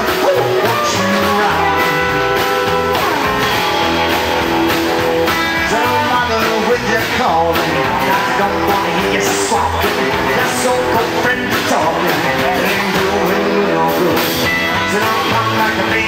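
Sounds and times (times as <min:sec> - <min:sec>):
acoustic guitar: 0:00.0 - 0:16.0
drums: 0:00.0 - 0:16.0
electric guitar: 0:00.0 - 0:16.0
upright double bass: 0:00.0 - 0:16.0.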